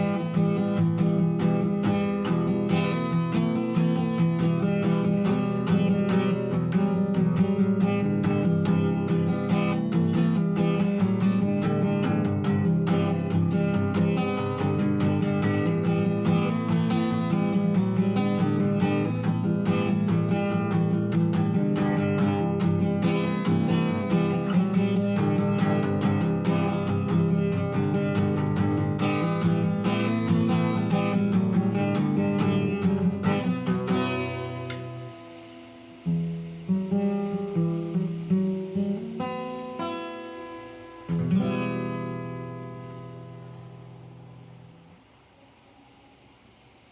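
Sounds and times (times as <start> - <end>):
acoustic guitar strummed chords: 0.0 - 45.2.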